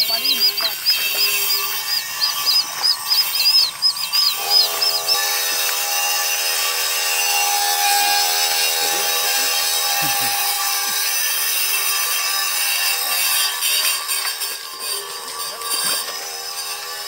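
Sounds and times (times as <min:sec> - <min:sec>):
steady multi-pitched hum: 0:00.0 - 0:17.0.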